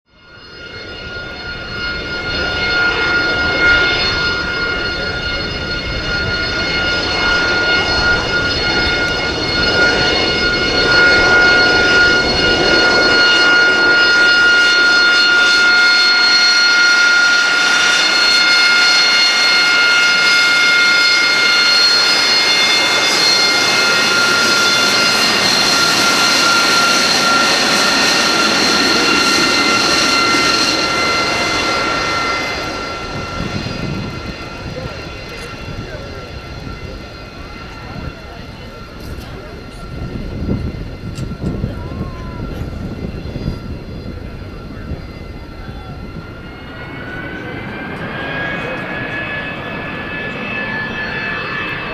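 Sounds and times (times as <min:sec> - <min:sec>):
high turbine whine: 0:00.1 - 0:51.9
jet engine roar: 0:00.1 - 0:51.9.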